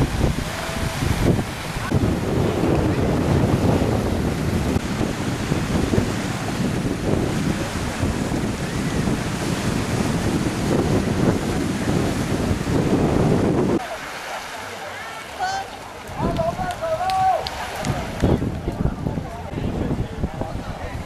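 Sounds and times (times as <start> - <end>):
wind buffeting the microphone: 0.0 - 13.8, 16.1 - 21.0
surf washing onto a beach: 0.0 - 21.0.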